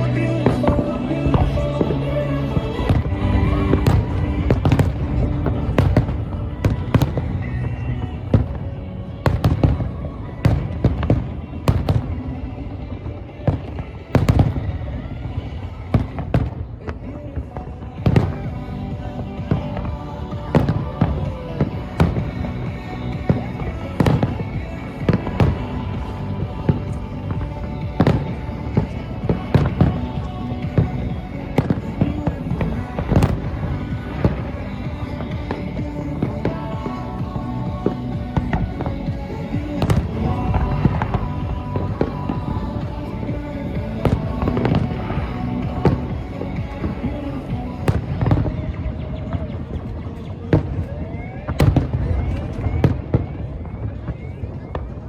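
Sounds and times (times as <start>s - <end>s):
fireworks sharp bangs: 0.0s - 55.0s
low rumble of distant explosions: 0.0s - 55.0s
music playing: 0.0s - 55.0s.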